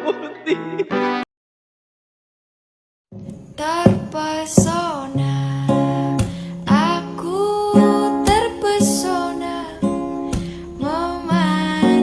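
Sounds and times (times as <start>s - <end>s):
acoustic guitar music: 0.0s - 1.2s, 3.1s - 12.0s.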